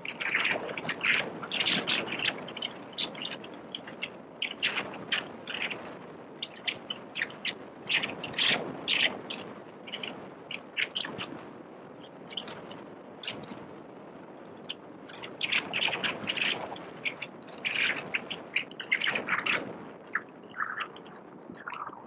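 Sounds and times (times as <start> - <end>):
small birds chirping: 0.0 - 22.0
steady background noise: 0.0 - 22.0.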